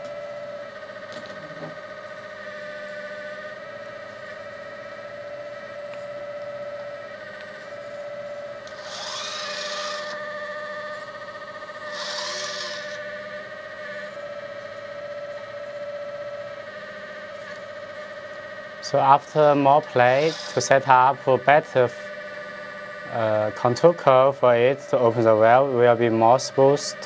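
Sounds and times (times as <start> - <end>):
hydraulic pump whining: 0.0 - 27.0.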